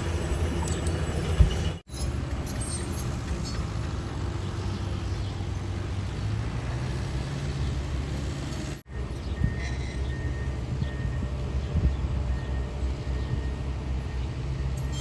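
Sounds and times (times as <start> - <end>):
diesel machinery engine drone: 0.0 - 15.0.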